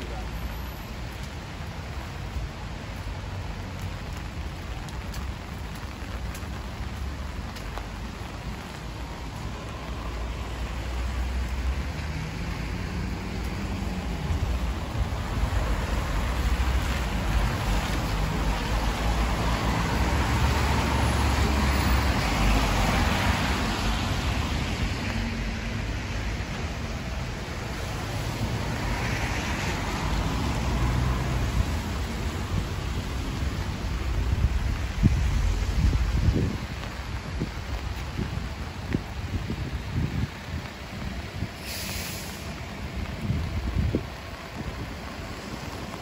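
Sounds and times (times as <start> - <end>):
car passing on wet road: 0.0 - 46.0
steady rainfall: 0.0 - 46.0.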